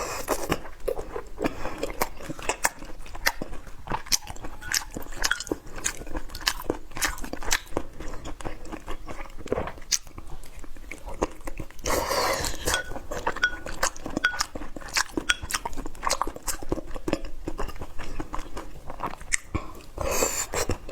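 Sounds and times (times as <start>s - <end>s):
person chewing crunchy food: 0.0s - 20.9s.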